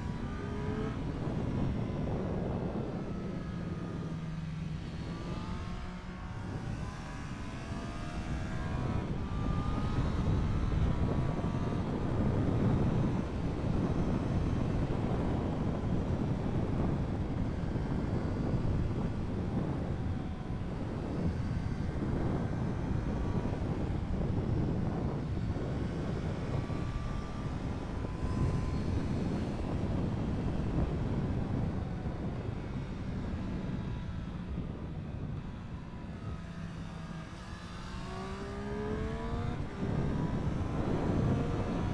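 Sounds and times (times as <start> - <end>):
motorcycle engine accelerating: 0.0 - 41.9
wind noise at speed: 0.0 - 41.9.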